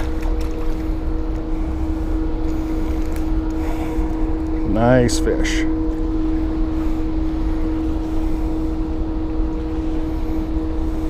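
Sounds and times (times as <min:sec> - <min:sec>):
boat motor hum: 0:00.0 - 0:11.0.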